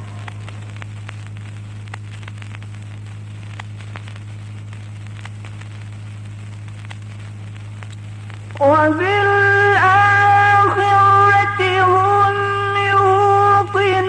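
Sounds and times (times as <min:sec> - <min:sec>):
low electrical hum with hiss: 0:00.0 - 0:14.0
small crackles and clicks: 0:00.0 - 0:14.0.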